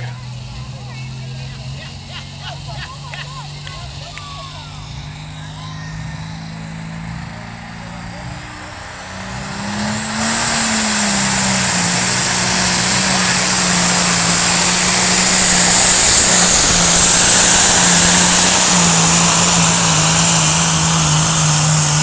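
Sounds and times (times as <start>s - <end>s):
high engine whine: 0.0s - 22.0s
tractor engine at full throttle: 0.0s - 22.0s.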